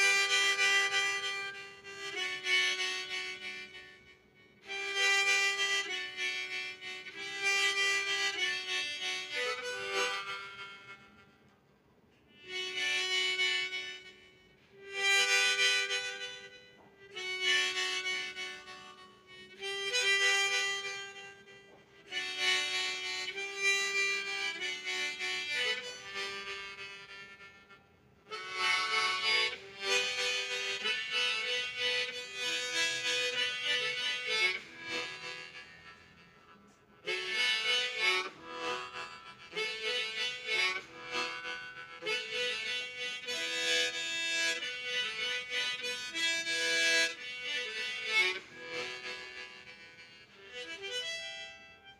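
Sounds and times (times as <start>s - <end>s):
harmonica melody: 0.0s - 51.9s.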